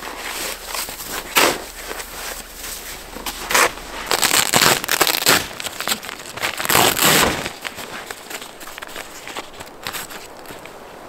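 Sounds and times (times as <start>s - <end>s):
snow being dug and crunched: 0.0s - 11.0s
stiff tent fabric rustling: 0.0s - 11.0s.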